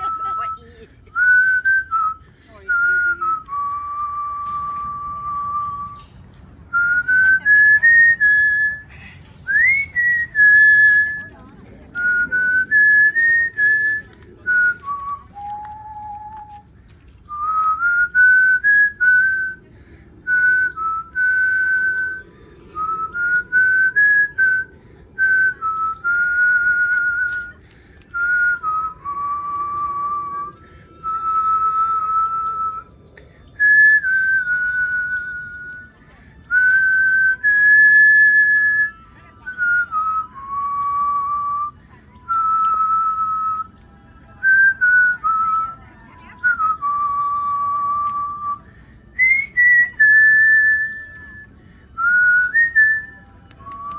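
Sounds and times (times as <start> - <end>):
person whistling a slow tune: 0.0 - 53.9
faint high-pitched tone: 9.5 - 53.9.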